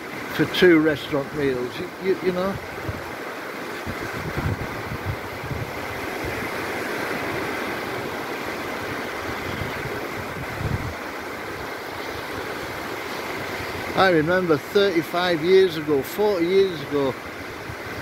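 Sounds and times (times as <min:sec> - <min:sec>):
small waves washing: 0:00.0 - 0:18.0
wind buffeting microphone: 0:01.1 - 0:14.8, 0:17.1 - 0:18.0.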